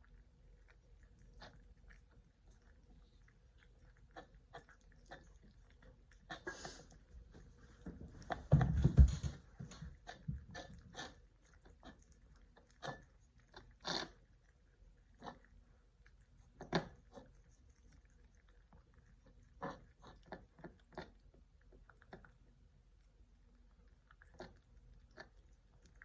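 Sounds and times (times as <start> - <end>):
cats chewing food: 0.0 - 26.0.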